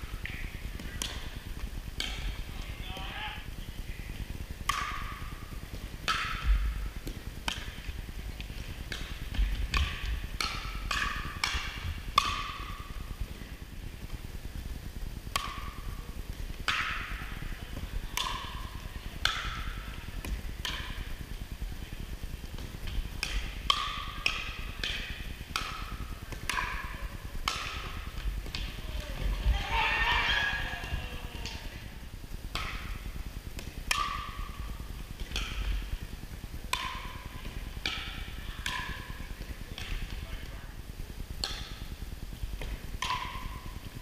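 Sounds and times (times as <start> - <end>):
paddles hitting plastic ball: 0.2 - 3.3, 4.6 - 14.1, 15.3 - 21.3, 22.3 - 36.0, 36.7 - 40.6, 41.4 - 41.9, 42.6 - 44.0.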